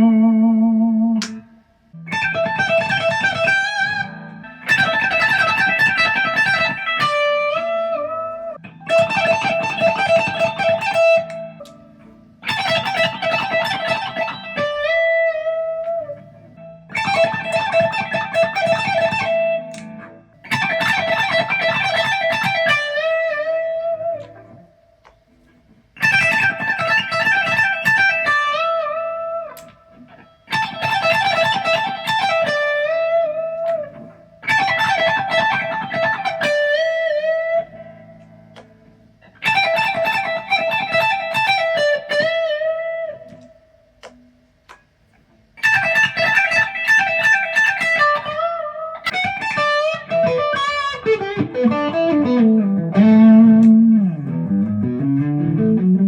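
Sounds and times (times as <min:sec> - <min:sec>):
electric guitar lead: 0:00.0 - 0:56.0.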